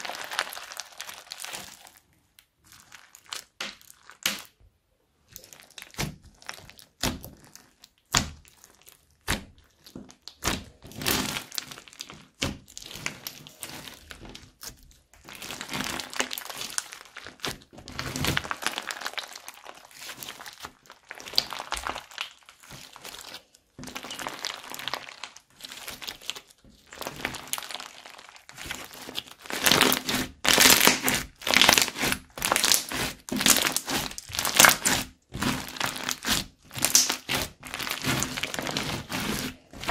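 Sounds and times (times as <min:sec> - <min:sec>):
crunchy slime crackling and squishing: 0:00.0 - 0:39.9.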